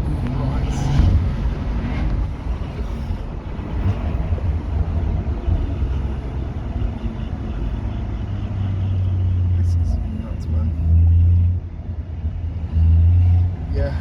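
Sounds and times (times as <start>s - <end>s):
car engine rumble from inside cabin: 0.0s - 14.0s.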